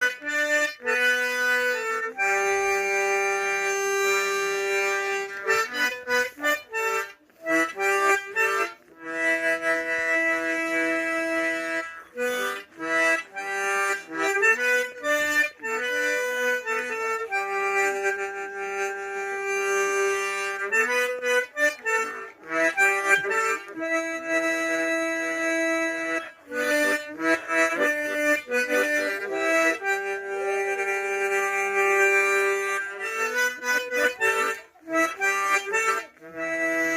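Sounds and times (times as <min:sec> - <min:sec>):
harmonica melody: 0:00.0 - 0:36.9.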